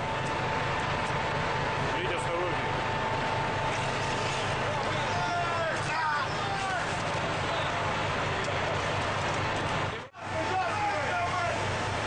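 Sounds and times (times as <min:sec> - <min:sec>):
boat engine hum: 0:00.0 - 0:12.0.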